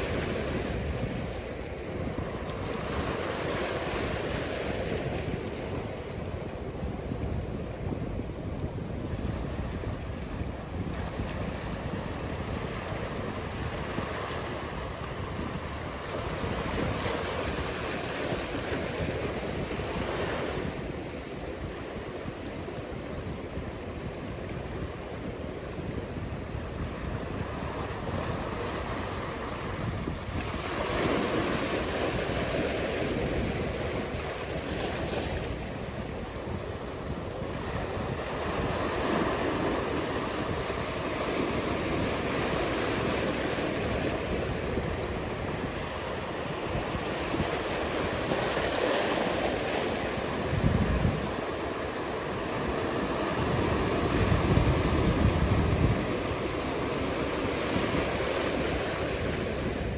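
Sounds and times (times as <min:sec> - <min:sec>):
ocean waves breaking: 0:00.0 - 0:59.9
wind noise on microphone: 0:00.0 - 0:59.9.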